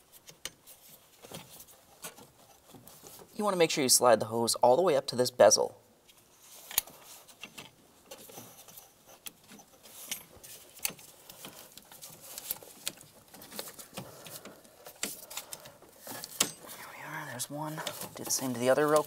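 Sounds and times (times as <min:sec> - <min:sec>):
soft rustling and rubbing: 0:00.0 - 0:03.6, 0:06.0 - 0:19.0.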